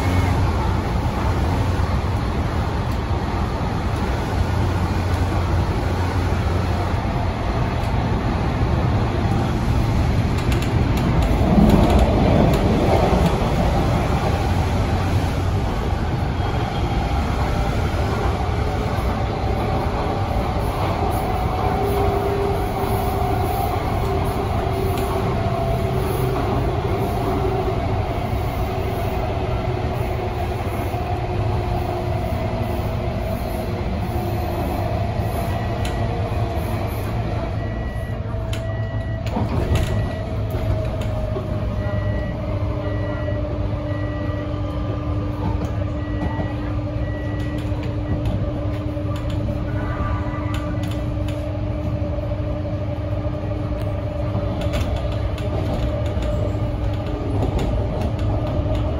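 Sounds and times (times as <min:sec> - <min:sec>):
train running rumble: 0:00.0 - 0:58.9.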